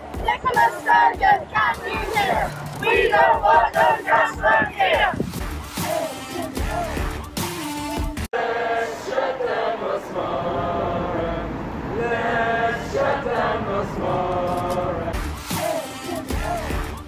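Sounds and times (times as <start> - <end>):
group of people chanting: 0.0 - 7.2, 7.8 - 17.0.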